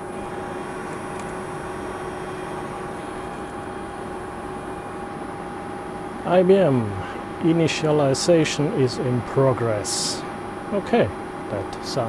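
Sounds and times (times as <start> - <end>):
cooling blowers whirring: 0.0 - 12.0.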